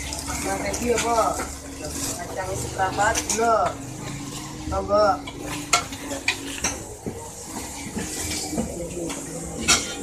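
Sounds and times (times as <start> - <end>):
plastic bags rustling: 0.0 - 9.1
market background murmur: 0.0 - 10.0.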